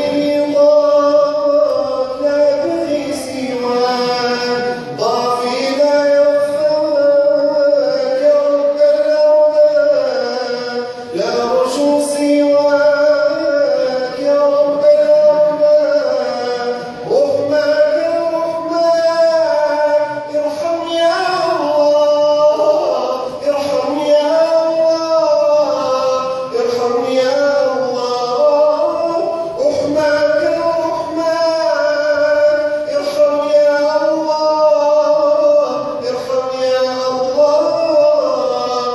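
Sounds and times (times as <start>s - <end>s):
man singing: 0.0s - 38.9s.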